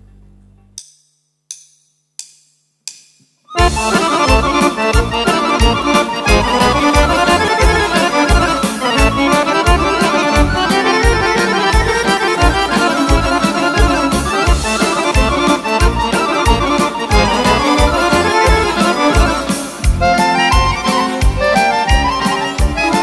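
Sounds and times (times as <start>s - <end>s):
accordion melody: 3.5s - 23.0s
kick drum beat: 3.6s - 23.0s.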